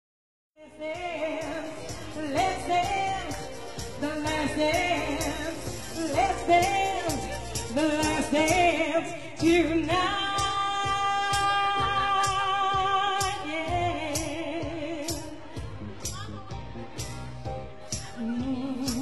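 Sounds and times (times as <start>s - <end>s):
woman singing: 0.6s - 16.6s, 17.8s - 19.0s
live band music: 0.7s - 19.0s.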